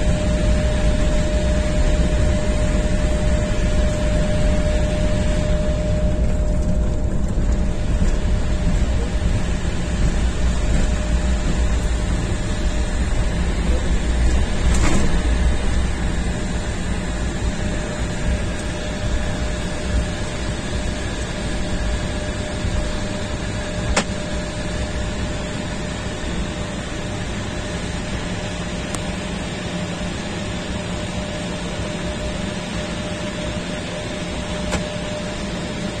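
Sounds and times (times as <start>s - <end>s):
engine and cabin air hum: 0.0s - 36.0s.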